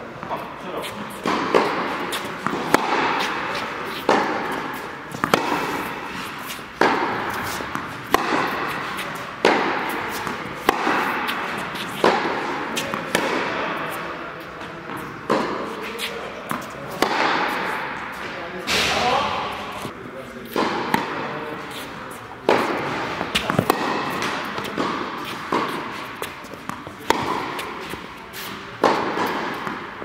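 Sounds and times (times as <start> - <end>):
tennis ball hit by rackets: 1.2 - 14.1, 14.9 - 19.9, 20.5 - 30.0.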